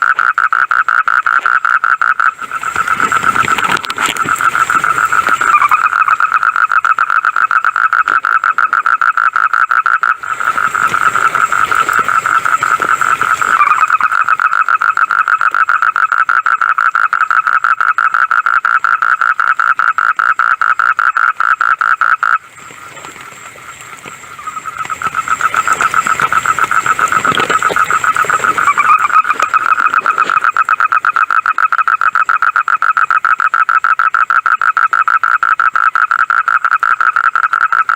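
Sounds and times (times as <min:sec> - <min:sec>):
frogs calling in pulsed trill: 0:00.0 - 0:37.9.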